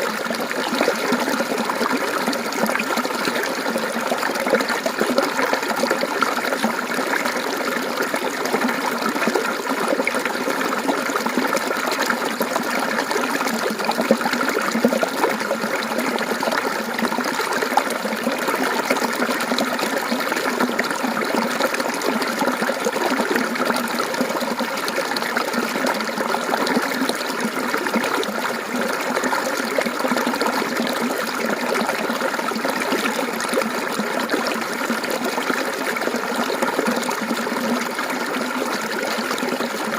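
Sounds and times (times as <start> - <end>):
stream water babbling over rocks: 0.0 - 39.9.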